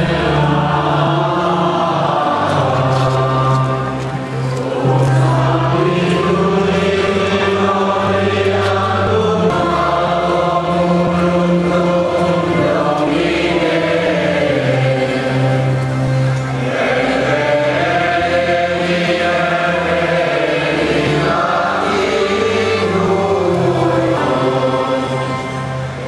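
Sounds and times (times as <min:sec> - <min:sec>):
choir and congregation singing hymn: 0:00.0 - 0:26.0.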